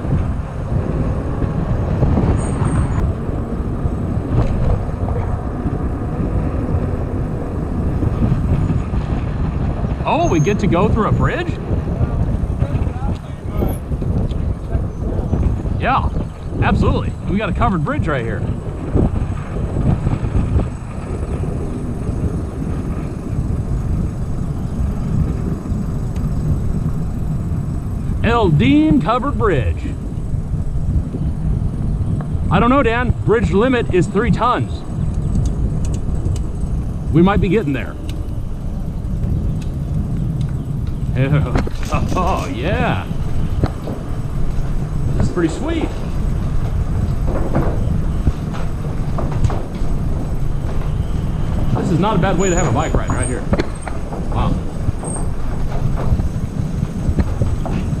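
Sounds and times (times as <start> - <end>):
bicycle tyre and road noise: 0.0 - 58.0
wind buffeting microphone: 0.0 - 58.0.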